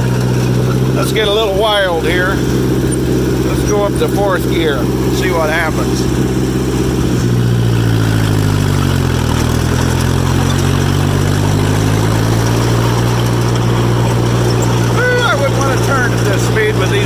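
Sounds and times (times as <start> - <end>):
crawler tractor engine running: 0.0 - 17.0.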